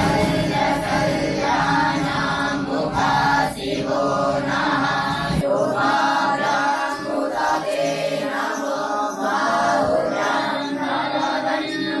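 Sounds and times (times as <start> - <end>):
group chanting verses in unison: 0.0 - 12.0.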